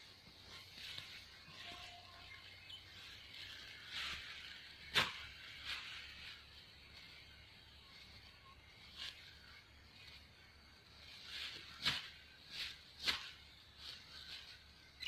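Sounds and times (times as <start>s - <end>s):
high-pitched hiss: 0.0s - 15.0s
soft rustling: 0.0s - 15.0s.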